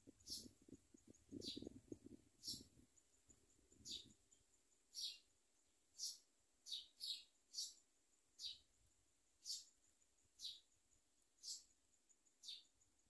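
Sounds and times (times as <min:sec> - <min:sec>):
nestling birds begging chirps: 0:00.0 - 0:08.8, 0:09.4 - 0:13.0.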